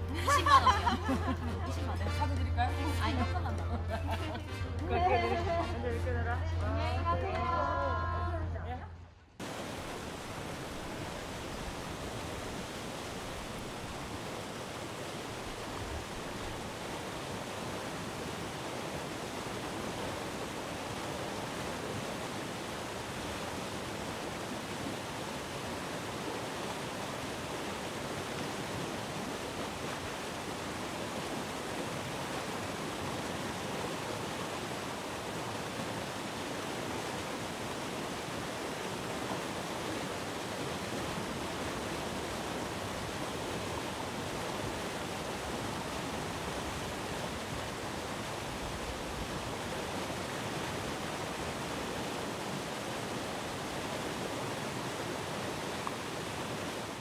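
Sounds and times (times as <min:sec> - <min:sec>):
sea surf rushing: 0:00.0 - 0:06.2, 0:09.4 - 0:57.0.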